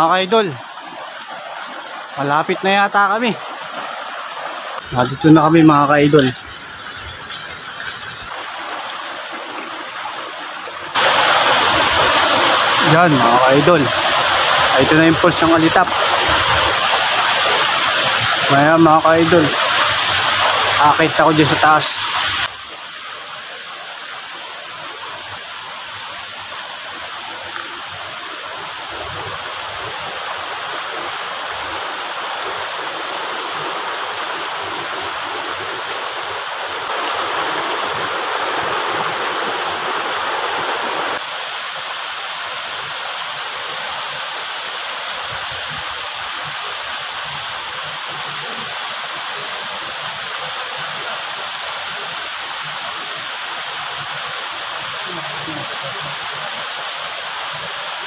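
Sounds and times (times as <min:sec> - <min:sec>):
waterfall roaring: 0:00.0 - 0:22.6, 0:25.9 - 0:41.4, 0:42.1 - 0:58.0.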